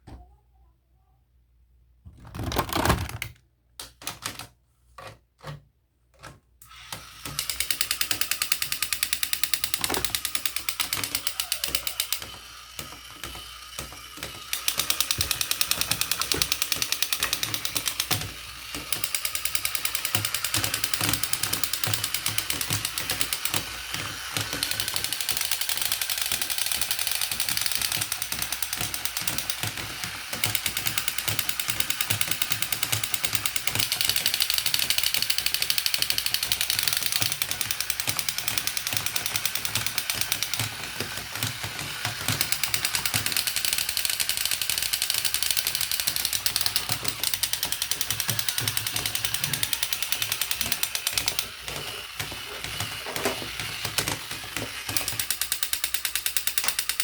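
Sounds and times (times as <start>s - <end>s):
toy motor clicking: 6.6s - 57.0s.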